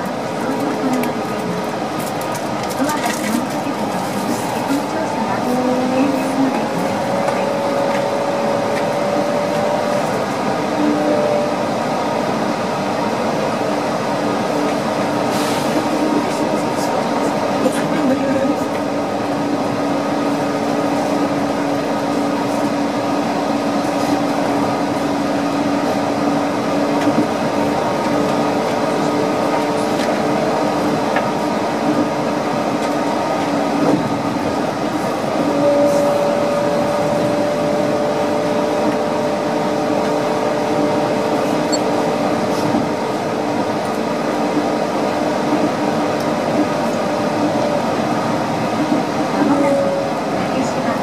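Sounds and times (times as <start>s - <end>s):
train rolling noise: 0.0s - 51.0s.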